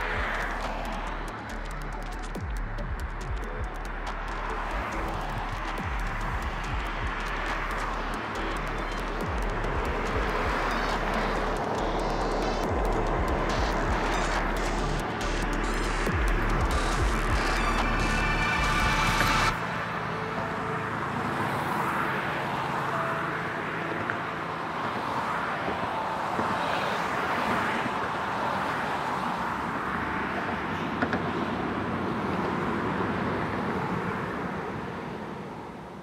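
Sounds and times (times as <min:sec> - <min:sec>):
highway traffic passing: 0:00.0 - 0:36.0.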